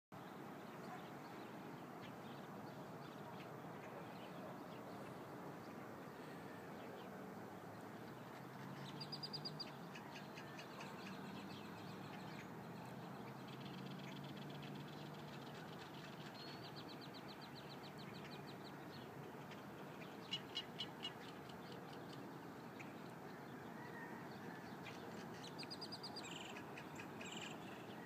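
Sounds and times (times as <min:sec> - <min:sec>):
faint birds chirping: 0:00.2 - 0:28.0.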